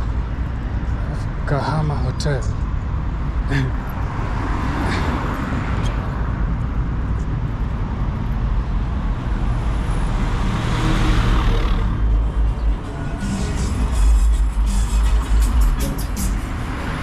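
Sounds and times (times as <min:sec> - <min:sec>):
low traffic rumble: 0:00.0 - 0:17.0
vehicles passing close by: 0:00.0 - 0:17.0.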